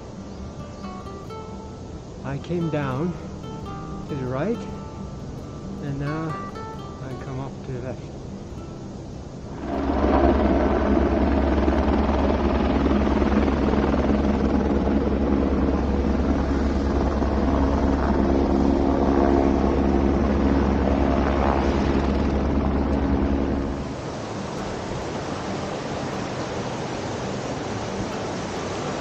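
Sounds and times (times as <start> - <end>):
helicopter rotor and engine drone: 0.0 - 29.0.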